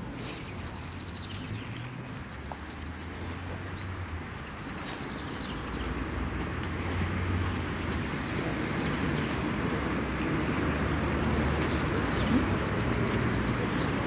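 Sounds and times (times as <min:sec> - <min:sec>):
outdoor background noise: 0:00.0 - 0:14.0
songbird chirping: 0:00.2 - 0:06.4, 0:07.8 - 0:09.5, 0:10.2 - 0:14.0.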